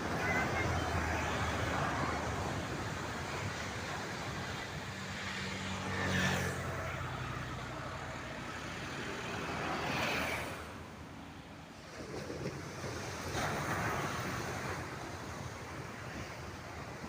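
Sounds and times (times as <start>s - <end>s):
sea waves: 0.0s - 17.0s
wind: 0.0s - 17.0s.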